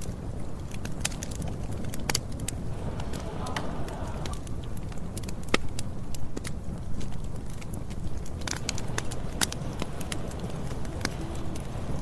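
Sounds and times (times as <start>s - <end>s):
burning wood crackling and popping: 0.0s - 12.0s
fire flames rumbling: 0.0s - 12.0s.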